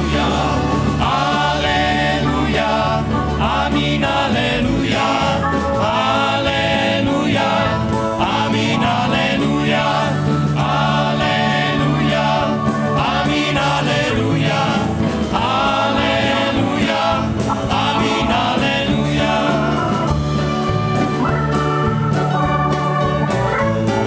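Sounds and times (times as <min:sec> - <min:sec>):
choir singing in unison: 0:00.0 - 0:20.3
live band playing: 0:00.0 - 0:24.0.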